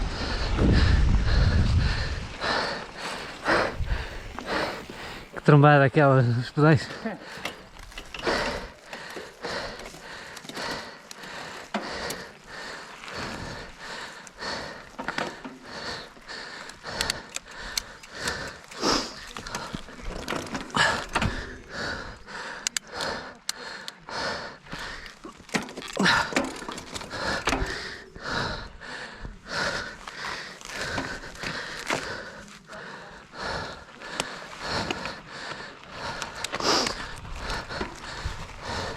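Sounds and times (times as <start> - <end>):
person panting: 0.0 - 5.4, 6.7 - 38.9.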